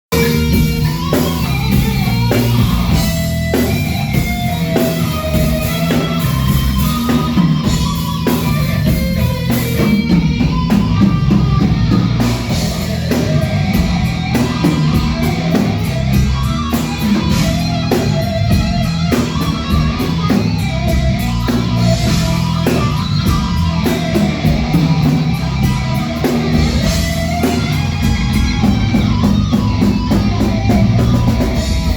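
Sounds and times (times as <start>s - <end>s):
fast high drum strokes: 0.1s - 31.9s
thrash metal music: 0.1s - 31.9s.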